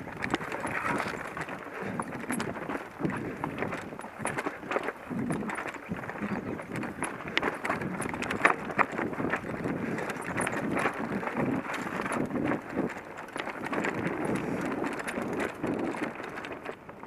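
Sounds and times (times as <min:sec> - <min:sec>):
bike tyres on stones and gravel: 0:00.0 - 0:17.0
wheels knocking and rattling on rocks: 0:00.0 - 0:17.0.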